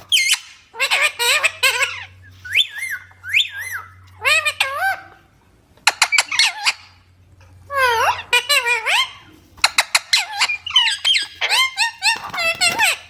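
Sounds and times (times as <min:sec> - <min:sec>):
parakeet squeaky calls: 0:00.0 - 0:05.2, 0:05.9 - 0:07.0, 0:07.7 - 0:13.0.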